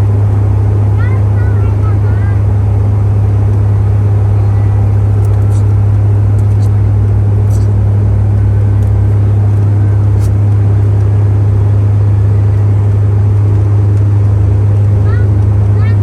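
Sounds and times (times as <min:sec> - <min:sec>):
engine and airflow rush: 0:00.0 - 0:16.0
propeller drone in aircraft cabin: 0:00.0 - 0:16.0.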